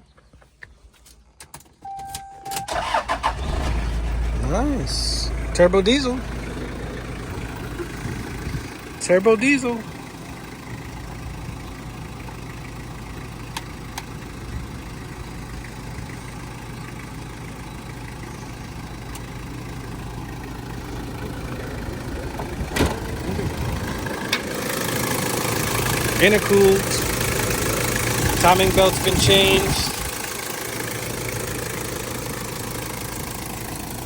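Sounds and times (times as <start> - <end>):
diesel engine idling: 1.8 - 34.0.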